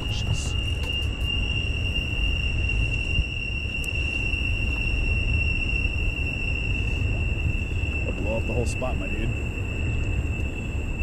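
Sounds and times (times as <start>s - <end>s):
insects singing high-pitched: 0.0s - 11.0s
low rumble: 0.0s - 11.0s.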